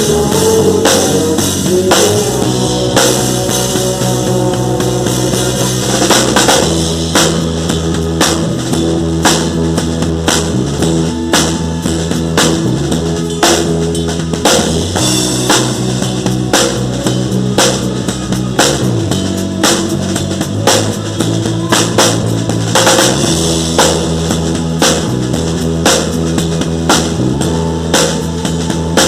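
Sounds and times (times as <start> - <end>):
drum kit beat: 0.0 - 29.0
live band playing instrumental: 0.0 - 29.0.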